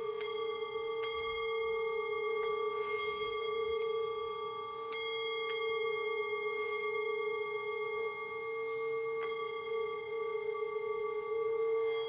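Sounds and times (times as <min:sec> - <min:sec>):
singing bowl ringing drone: 0:00.0 - 0:12.0.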